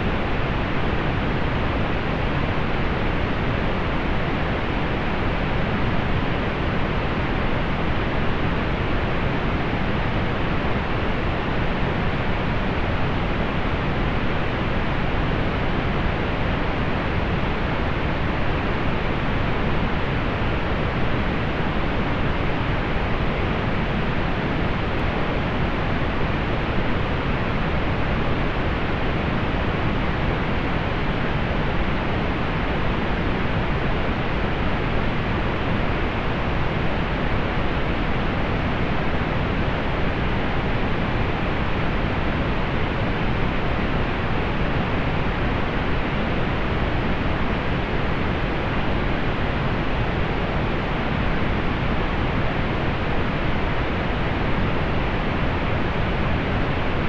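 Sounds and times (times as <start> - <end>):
pink noise hiss: 0.0 - 57.0.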